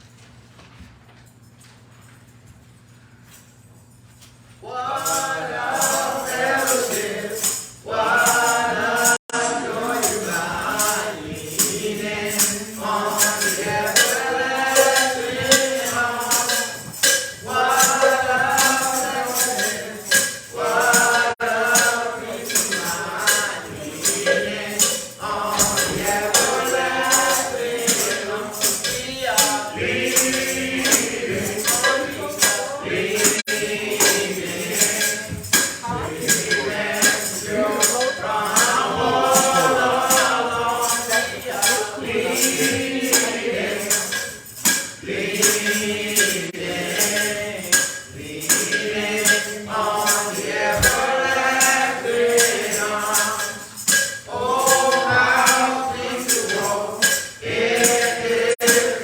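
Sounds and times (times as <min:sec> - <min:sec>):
voices singing a church song: 0:04.6 - 0:59.0
tambourine struck on a beat: 0:04.9 - 0:59.0.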